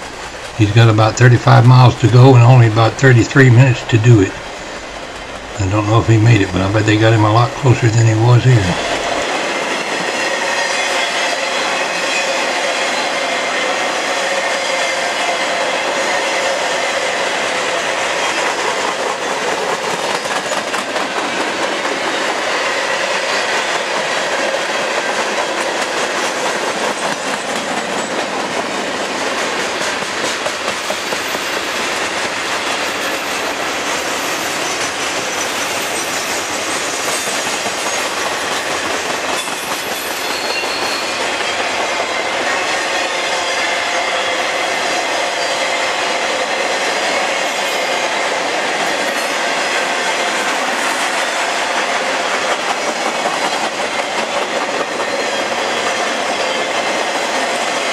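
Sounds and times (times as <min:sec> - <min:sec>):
freight train rolling past: 0:00.0 - 0:57.9.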